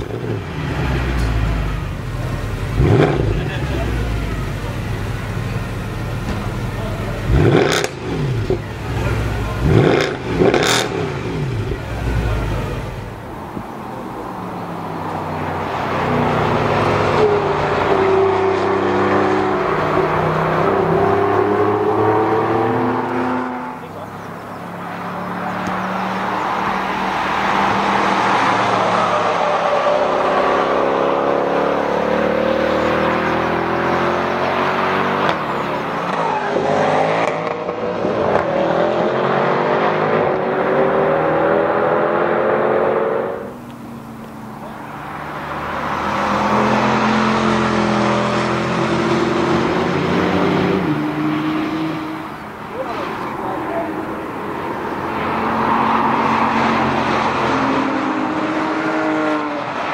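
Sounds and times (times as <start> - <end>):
car engine accelerating: 0.0 - 59.9
car engine revving: 0.0 - 59.9.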